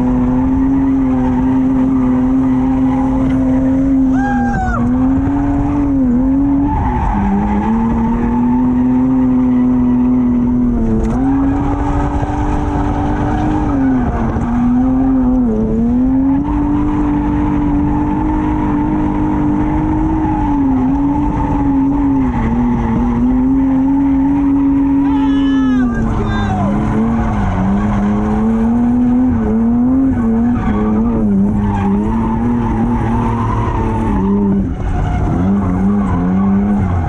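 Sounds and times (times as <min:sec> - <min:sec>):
car engine at high revs: 0:00.0 - 0:37.0.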